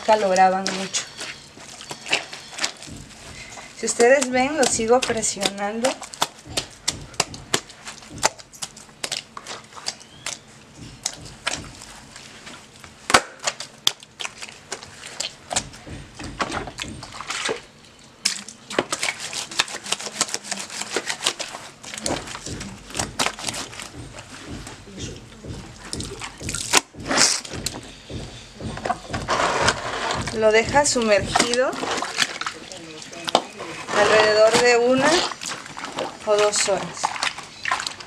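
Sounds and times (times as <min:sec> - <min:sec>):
wet fabric kneaded by hand: 0:00.0 - 0:38.0.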